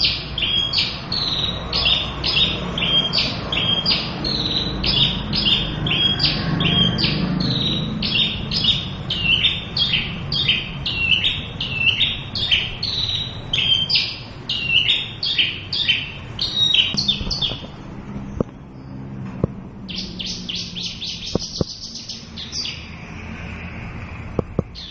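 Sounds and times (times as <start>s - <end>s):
bush lark singing: 0.0s - 19.1s, 19.8s - 23.0s.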